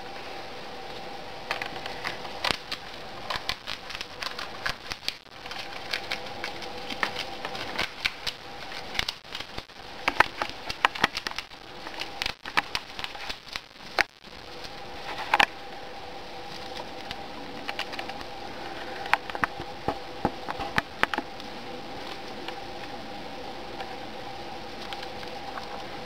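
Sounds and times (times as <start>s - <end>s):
rodent gnawing hard food: 1.4s - 26.0s.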